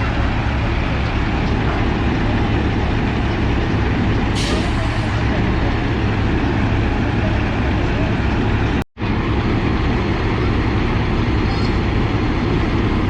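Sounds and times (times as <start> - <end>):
heavy vehicle engine running: 0.0 - 13.0.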